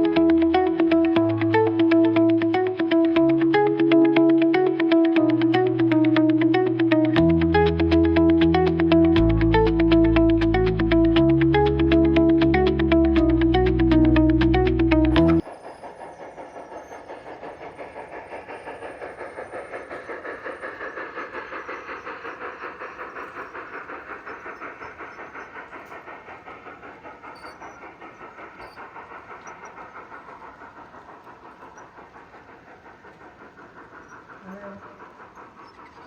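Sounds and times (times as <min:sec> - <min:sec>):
model locomotive chuffing: 0:00.0 - 0:36.0.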